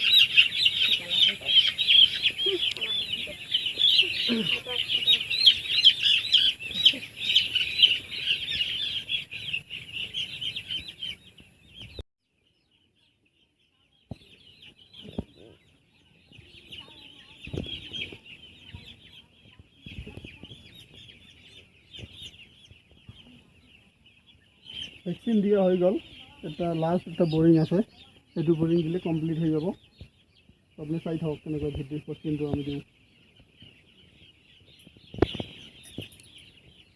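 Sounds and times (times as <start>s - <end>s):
chicks peeping: 0.0s - 36.9s.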